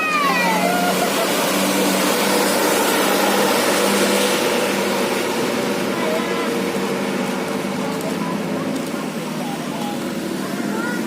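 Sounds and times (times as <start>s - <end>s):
bus engine humming: 0.0s - 11.0s.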